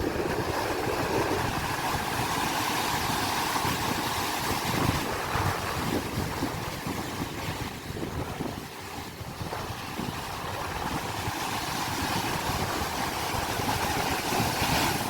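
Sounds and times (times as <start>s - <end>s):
sea waves washing on shore: 0.0s - 15.0s
wind rumble on microphone: 0.0s - 15.0s.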